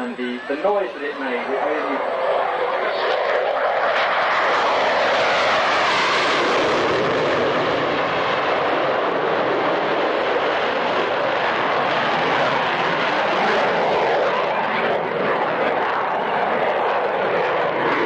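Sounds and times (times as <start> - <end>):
aircraft flying low pass: 0.0 - 18.0.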